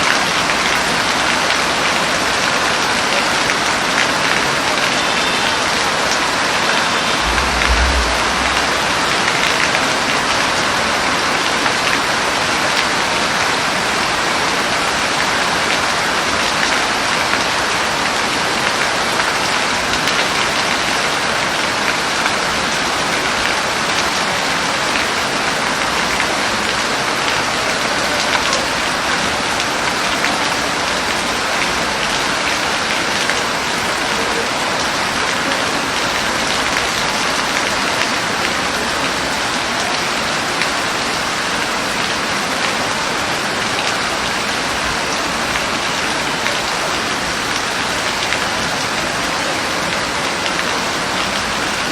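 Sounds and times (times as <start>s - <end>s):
heavy rain on hard surface: 0.0s - 51.9s.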